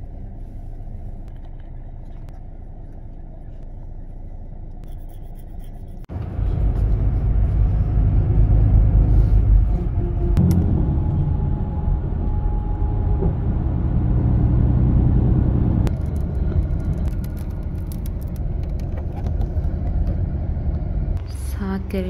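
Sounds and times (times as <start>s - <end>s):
coach engine and road rumble: 0.0s - 22.0s.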